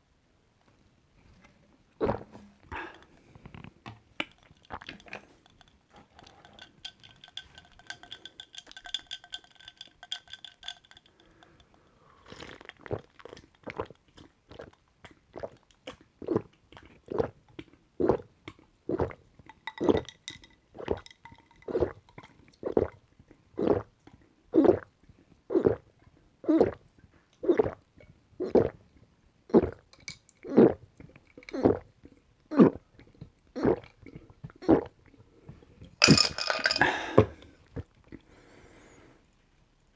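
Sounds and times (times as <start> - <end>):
person gulping a drink: 2.0 - 38.4.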